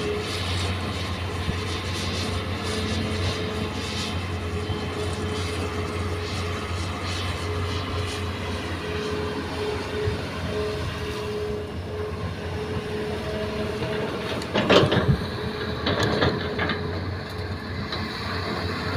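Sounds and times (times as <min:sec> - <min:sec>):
excavator diesel engine running: 0:00.0 - 0:18.9
hydraulic whine: 0:00.0 - 0:18.9.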